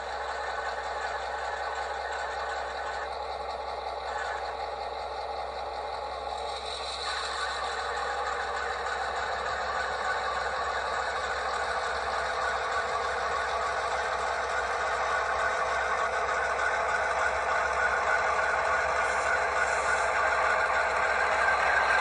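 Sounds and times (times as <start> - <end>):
model trains running on track: 0.0 - 22.0.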